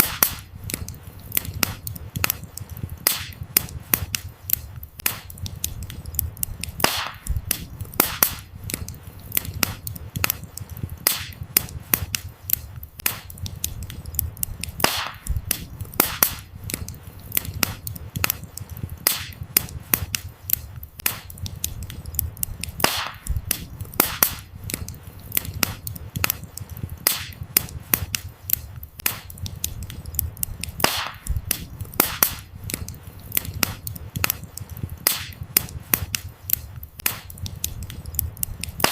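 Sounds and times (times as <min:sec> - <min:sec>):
firewood crackling and popping: 0:00.0 - 0:38.9
low rumble of flames: 0:00.0 - 0:38.9.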